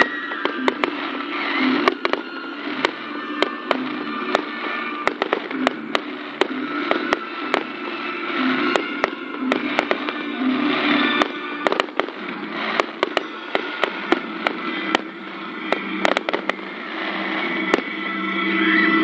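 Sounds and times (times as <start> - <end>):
firework shells bursting: 0.0 - 16.7
firework whistling tones: 0.0 - 19.0
fireworks crackling hiss: 0.0 - 19.0.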